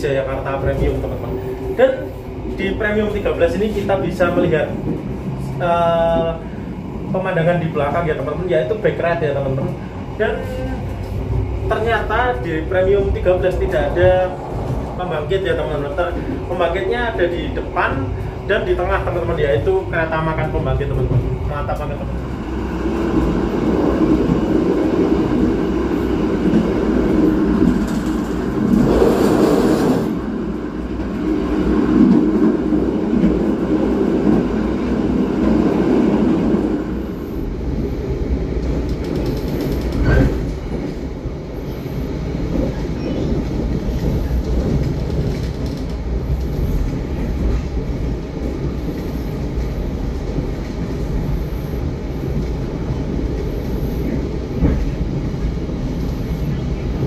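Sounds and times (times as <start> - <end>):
train wheels on rails: 9.4 - 57.0.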